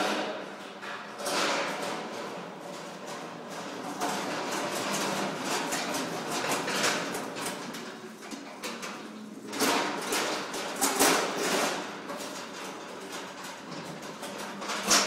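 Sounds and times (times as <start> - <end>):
metal trolleys rattling and clanking: 0.0 - 15.0.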